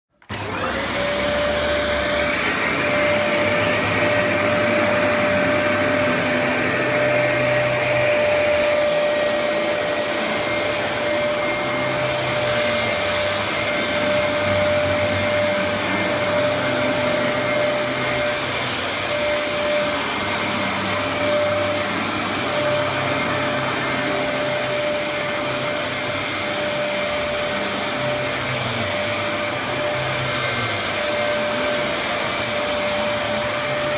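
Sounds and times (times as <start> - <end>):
vacuum cleaner motor whine: 0.2 - 33.9.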